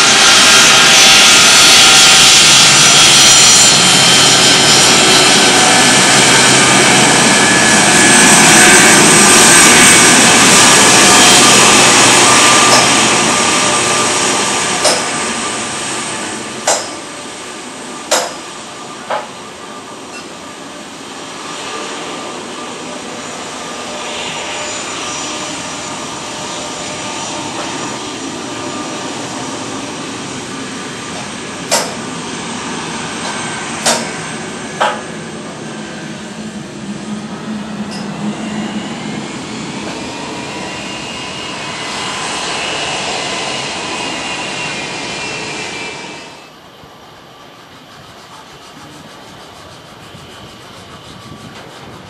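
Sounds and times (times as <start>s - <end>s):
jet engines running: 0.0s - 52.0s.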